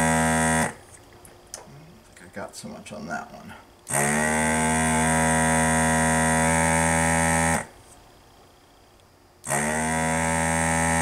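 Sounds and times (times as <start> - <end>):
desoldering pump buzzing hum: 0.0 - 11.0.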